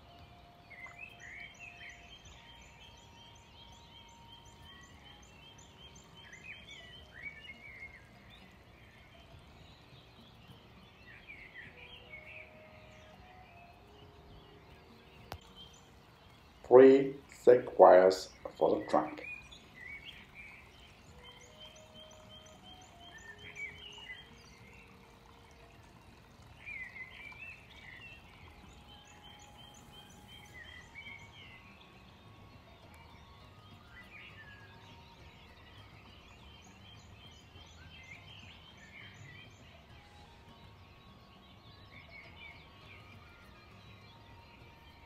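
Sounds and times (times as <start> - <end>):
faint low outdoor noise: 0.0 - 45.0
songbirds singing: 0.0 - 45.0.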